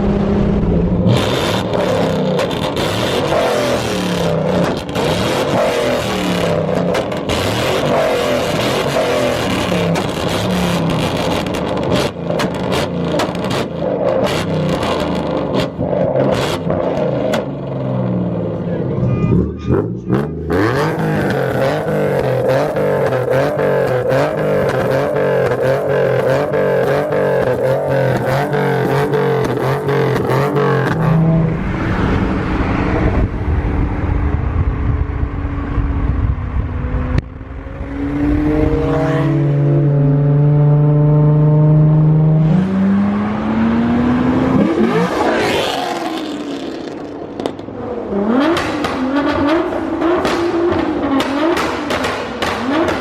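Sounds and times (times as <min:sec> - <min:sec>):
supercar engine revving: 0:00.0 - 0:53.0.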